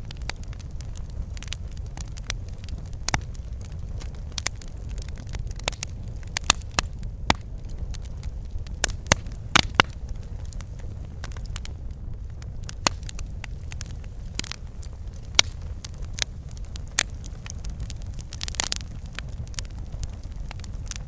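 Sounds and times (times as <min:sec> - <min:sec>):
fire crackling and popping: 0:00.0 - 0:21.0
low rumble of burning fire: 0:00.0 - 0:21.0.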